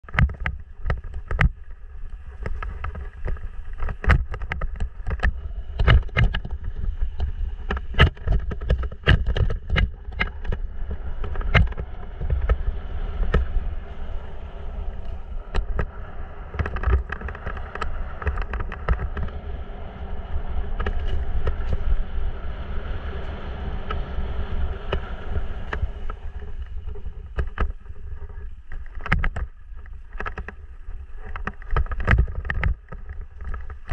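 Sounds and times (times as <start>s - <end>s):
bike tyres rumbling on dirt: 0.0s - 33.9s
wind on microphone: 0.0s - 33.9s.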